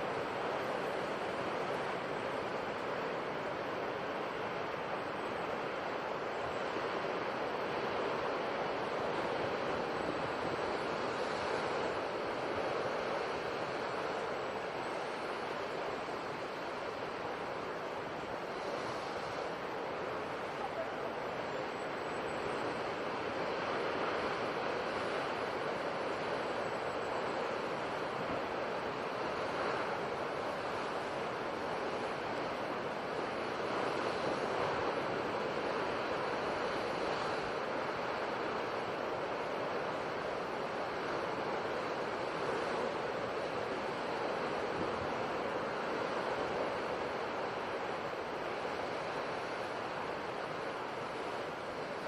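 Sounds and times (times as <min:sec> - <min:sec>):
sea waves breaking: 0:00.0 - 0:52.0
steady rushing nature ambience: 0:00.0 - 0:52.0.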